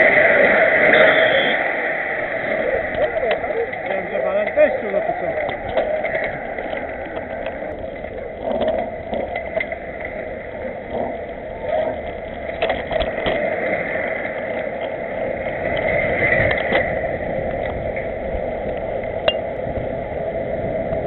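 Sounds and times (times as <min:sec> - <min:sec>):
rush of wind and tyres: 0:00.0 - 0:21.0
bike rattling over paving blocks: 0:02.4 - 0:19.9.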